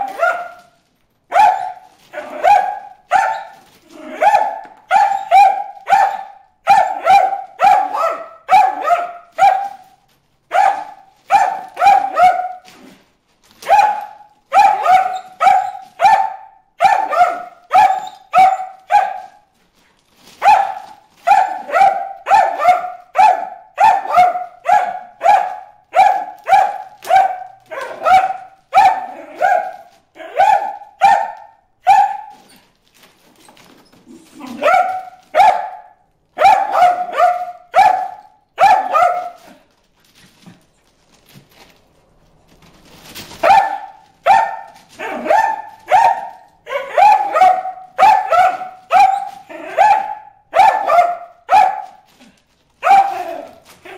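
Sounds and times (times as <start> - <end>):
dog barking rapidly: 0.0 - 12.8, 13.6 - 19.5, 20.3 - 32.5, 34.4 - 39.6, 43.2 - 52.1, 52.8 - 53.9.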